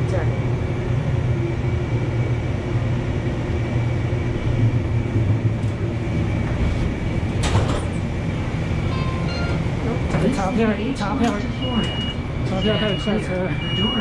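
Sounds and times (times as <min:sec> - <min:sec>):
train rumble from inside car: 0:00.0 - 0:14.0.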